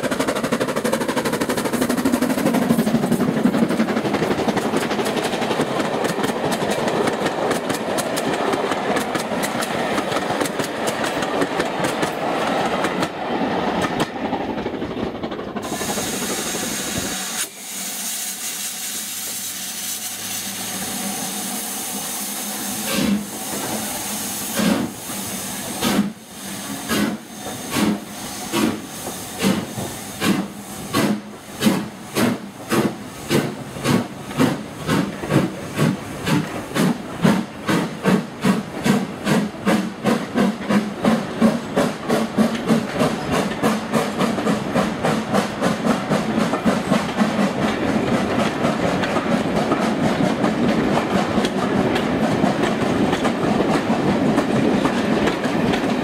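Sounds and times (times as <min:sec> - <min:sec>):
steam locomotive exhaust chuffs: 0:00.0 - 0:12.8, 0:15.5 - 0:55.9
steam locomotive hissing: 0:00.0 - 0:14.4, 0:15.5 - 0:56.0
train coaches rumbling on rails: 0:00.0 - 0:56.0.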